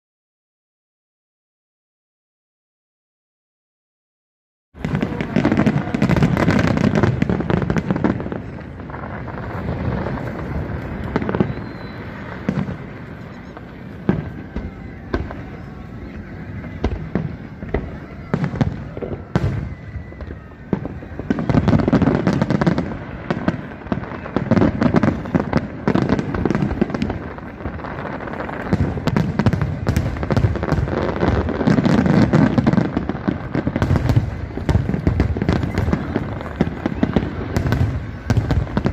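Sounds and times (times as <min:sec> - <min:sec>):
fireworks crackling: 0:04.8 - 0:38.9.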